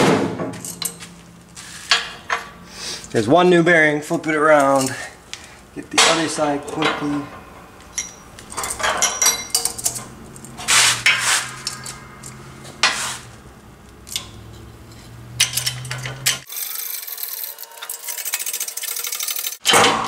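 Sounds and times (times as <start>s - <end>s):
steel parts clanking and scraping: 0.5s - 3.2s, 4.3s - 19.9s.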